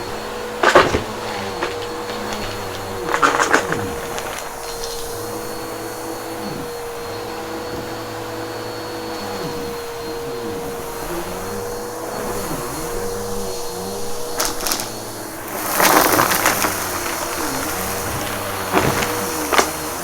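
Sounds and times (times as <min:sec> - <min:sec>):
debris crackling in vacuum: 0:00.0 - 0:20.0
upright vacuum motor whine: 0:00.0 - 0:20.0.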